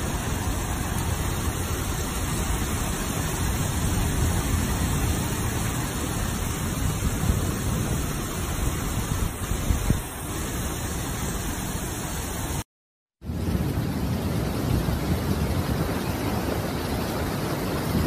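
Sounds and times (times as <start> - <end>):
heavy rain on flooded street: 0.0 - 18.0.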